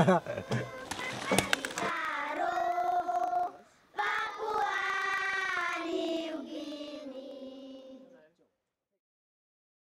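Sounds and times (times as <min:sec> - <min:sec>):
voices singing slow melody: 0:00.1 - 0:08.3.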